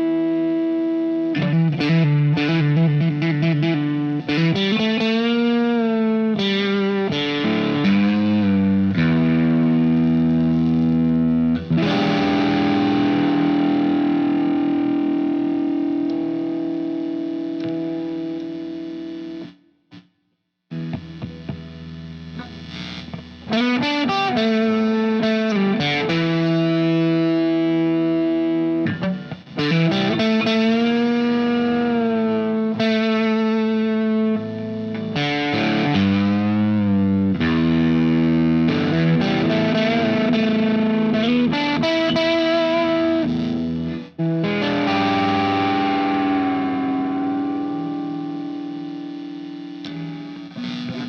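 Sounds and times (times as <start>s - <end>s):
distorted electric guitar: 0.0s - 51.0s.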